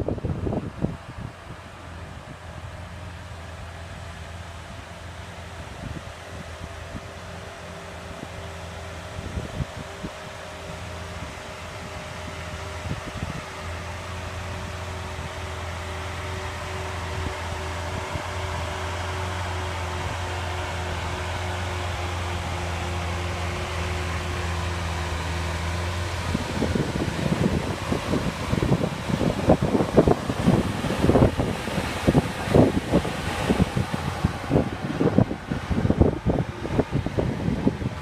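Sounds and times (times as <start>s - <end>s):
low mechanical hum: 0.0s - 38.0s
wind gusting on microphone: 0.0s - 38.0s.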